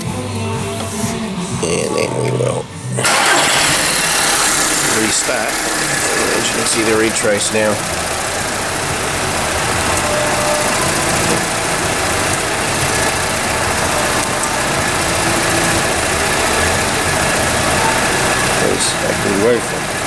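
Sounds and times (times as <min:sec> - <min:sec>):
petrol engine idling: 0:02.8 - 0:20.0.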